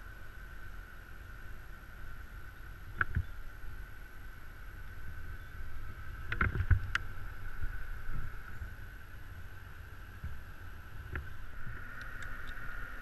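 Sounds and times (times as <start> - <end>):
low steady rumble: 0.0 - 13.0
thin steady whine: 0.0 - 13.0.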